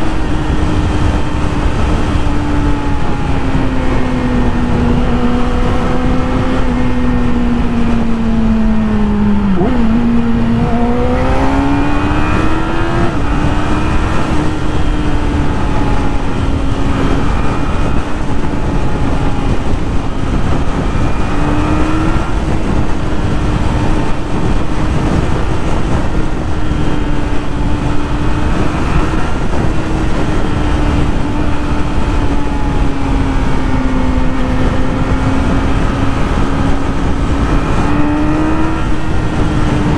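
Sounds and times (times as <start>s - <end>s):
motorcycle engine running: 0.0s - 39.9s
riding wind rushing: 0.0s - 39.9s.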